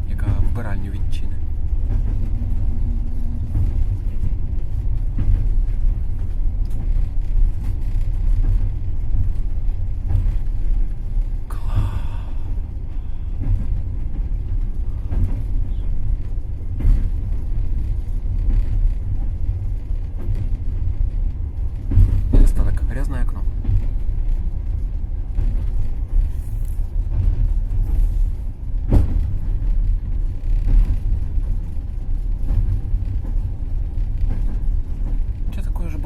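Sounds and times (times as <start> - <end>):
train coach rumble: 0.0 - 36.0
wheels clacking over rail joints: 0.0 - 36.0.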